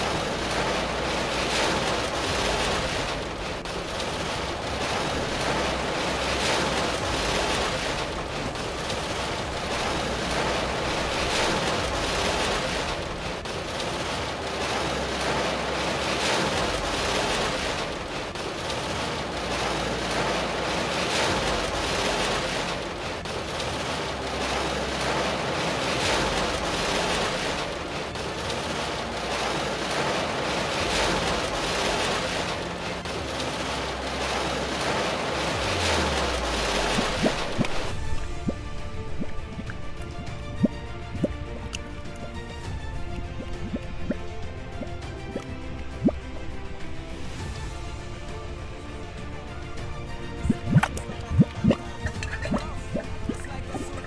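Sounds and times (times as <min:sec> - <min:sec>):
lava fountain rushing: 0:00.0 - 0:54.0.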